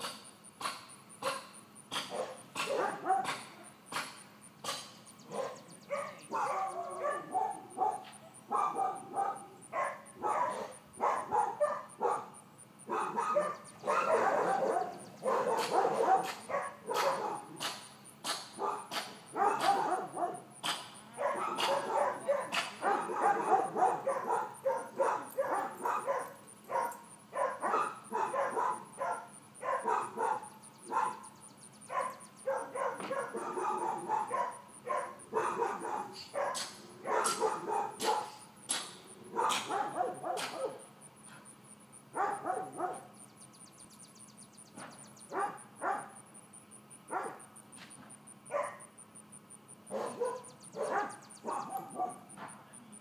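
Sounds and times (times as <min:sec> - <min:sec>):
puppy barking: 0:01.2 - 0:41.0, 0:42.1 - 0:43.2, 0:45.3 - 0:46.2, 0:47.1 - 0:47.6, 0:48.5 - 0:48.9, 0:49.9 - 0:52.5.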